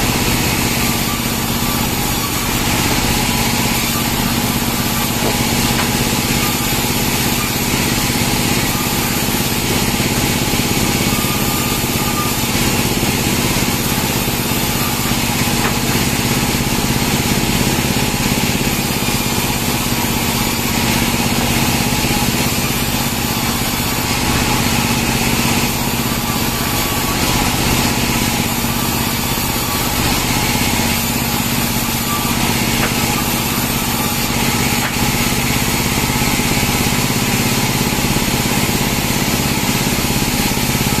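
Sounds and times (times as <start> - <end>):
band sawmill cutting logs: 0.0 - 41.0.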